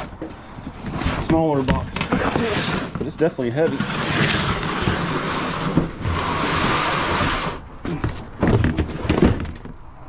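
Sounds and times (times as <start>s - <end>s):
heavy box rustling and dragging: 0.3s - 9.4s.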